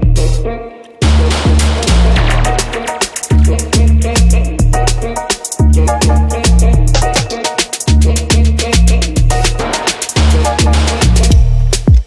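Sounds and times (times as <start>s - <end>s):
deep bass notes: 0.0s - 12.0s
quick percussion hits: 1.0s - 12.0s.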